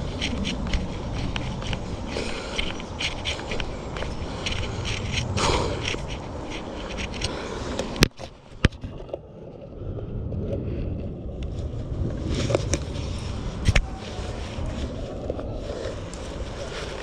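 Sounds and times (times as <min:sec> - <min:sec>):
camera handling rumble and rustle: 0:00.0 - 0:09.6, 0:10.4 - 0:17.0.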